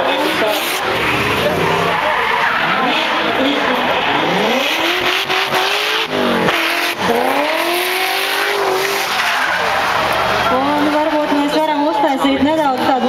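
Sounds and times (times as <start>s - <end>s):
car engine revving hard: 0.0s - 11.7s
tyres squealing: 0.1s - 11.8s.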